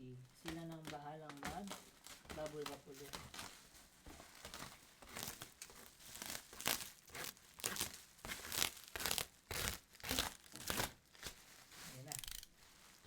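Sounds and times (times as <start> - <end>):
plastic packaging crinkling: 0.1 - 13.0.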